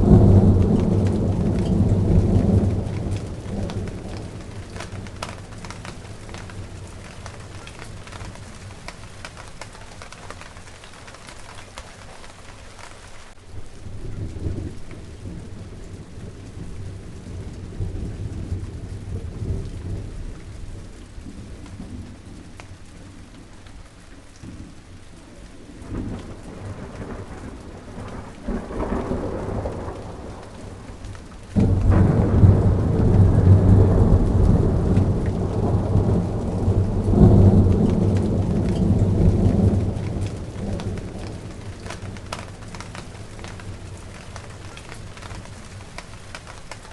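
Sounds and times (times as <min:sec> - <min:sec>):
steady rain: 0:00.0 - 0:46.9
thunder rumbling: 0:00.0 - 0:46.9.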